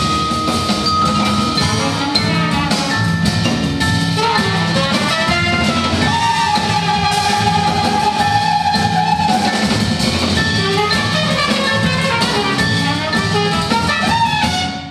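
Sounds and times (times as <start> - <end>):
drum kit and percussion: 0.0 - 14.9
large jazz ensemble playing: 0.0 - 14.9.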